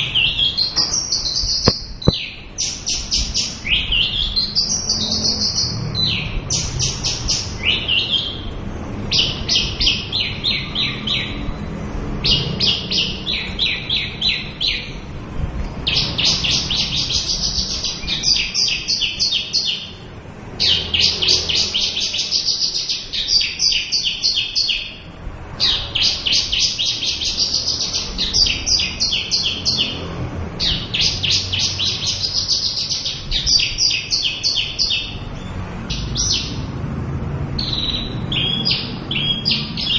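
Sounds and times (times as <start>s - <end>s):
lark singing rapid trills: 0.0s - 11.6s, 12.2s - 15.1s, 15.8s - 20.0s, 20.6s - 25.0s, 25.6s - 30.0s, 30.6s - 36.6s, 37.6s - 39.9s.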